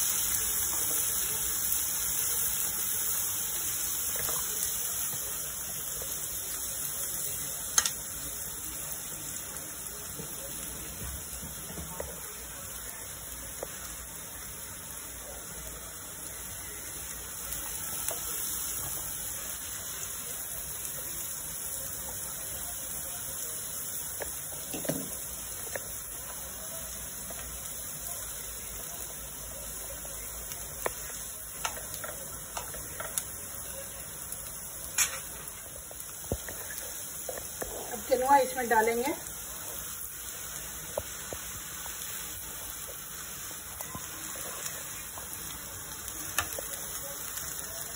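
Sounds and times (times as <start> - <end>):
vegetables frying with a hiss: 0.0 - 47.9.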